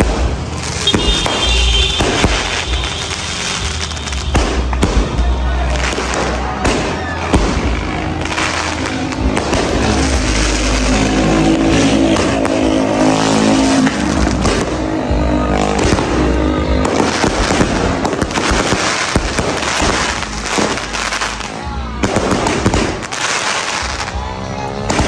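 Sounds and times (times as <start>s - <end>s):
fireworks popping and crackling: 0.0s - 25.0s.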